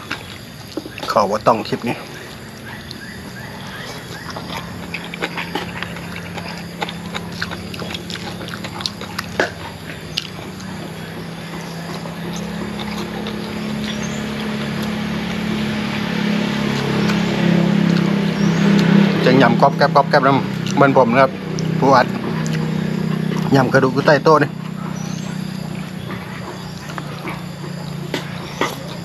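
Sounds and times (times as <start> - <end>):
person chewing and lip smacking: 0.0 - 19.1, 20.4 - 29.0.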